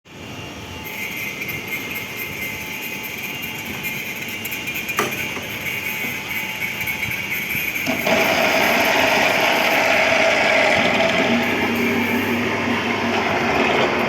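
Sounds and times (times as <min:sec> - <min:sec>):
pipe threading machine running: 0:00.9 - 0:14.0.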